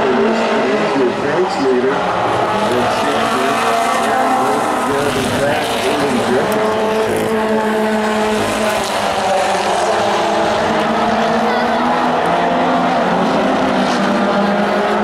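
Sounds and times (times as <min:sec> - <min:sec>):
race truck engines: 0:00.0 - 0:15.0.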